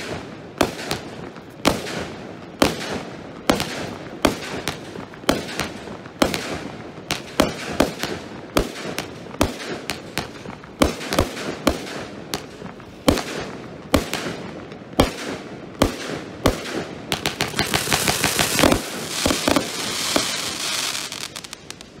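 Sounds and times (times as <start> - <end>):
firework barrage reports: 0.0 - 22.0.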